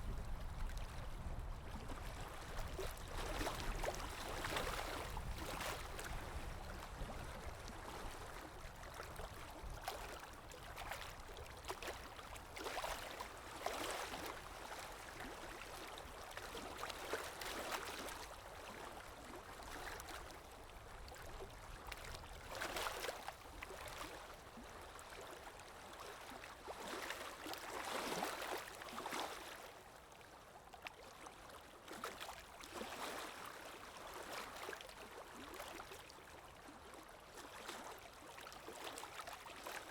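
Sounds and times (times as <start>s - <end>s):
river water lapping: 0.0s - 39.9s.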